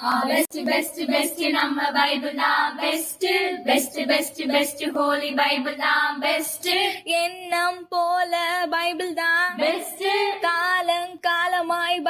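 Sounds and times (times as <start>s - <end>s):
women singing a cappella jingle: 0.0s - 12.0s.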